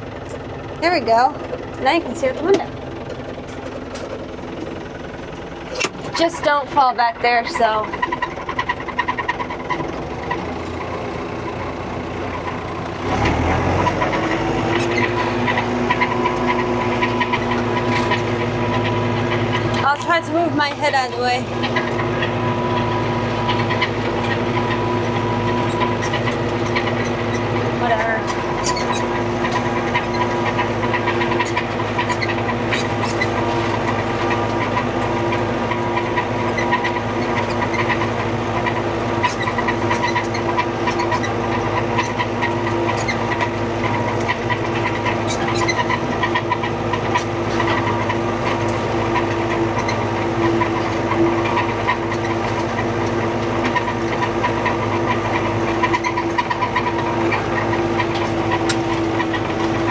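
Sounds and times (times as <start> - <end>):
light rattling and ticking: 0.0 - 59.9
tractor engine running: 0.0 - 59.9.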